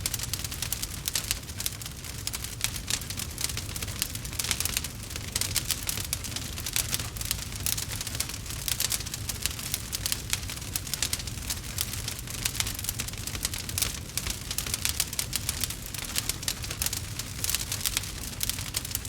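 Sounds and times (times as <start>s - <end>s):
bonfire crackling and popping: 0.0s - 19.0s
low rumble of fire: 0.0s - 19.0s.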